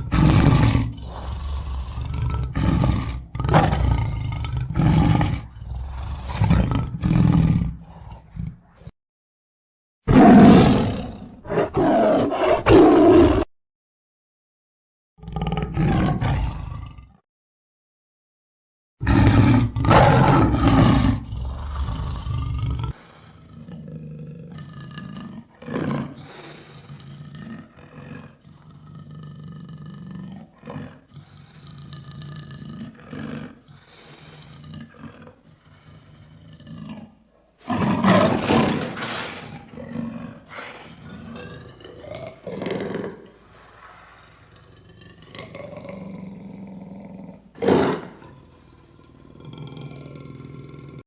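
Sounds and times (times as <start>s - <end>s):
lion roaring: 0.0s - 8.9s, 10.1s - 13.5s, 15.2s - 17.2s, 19.0s - 51.0s.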